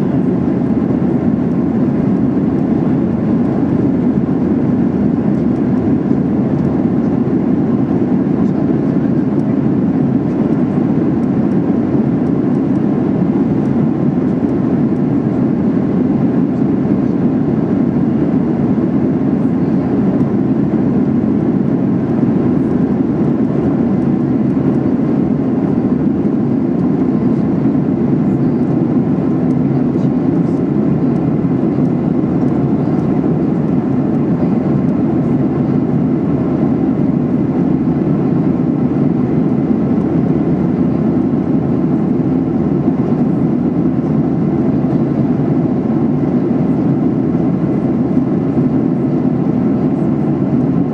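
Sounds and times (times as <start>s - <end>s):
airplane cabin drone: 0.0s - 50.9s.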